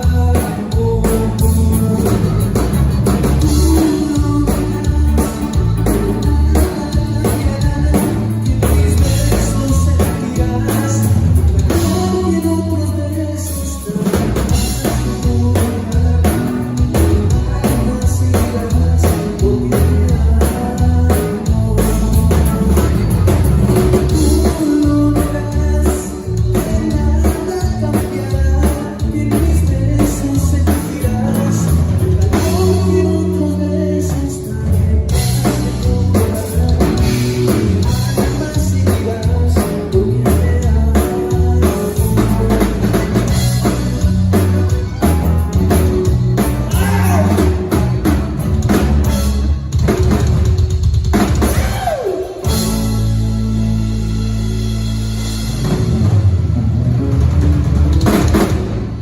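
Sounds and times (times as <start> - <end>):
person singing: 0.0 - 49.3
rock band playing live: 0.0 - 59.0.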